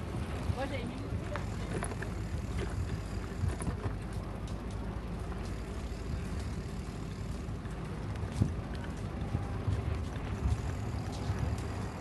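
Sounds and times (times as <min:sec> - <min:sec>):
wind and road rumble: 0:00.0 - 0:12.0.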